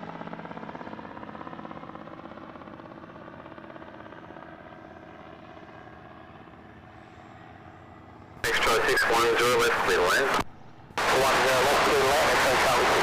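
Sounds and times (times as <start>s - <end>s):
light aircraft engine droning: 0.0s - 13.0s.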